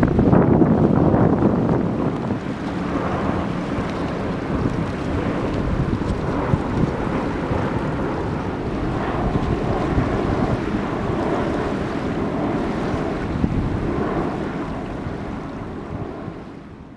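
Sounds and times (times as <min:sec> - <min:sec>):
wind on microphone: 0:00.0 - 0:16.9
small waves lapping on sand: 0:01.5 - 0:16.6.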